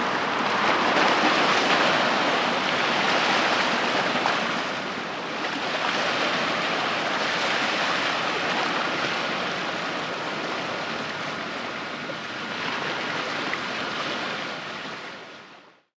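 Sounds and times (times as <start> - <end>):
waves washing against shore: 0.0 - 15.7.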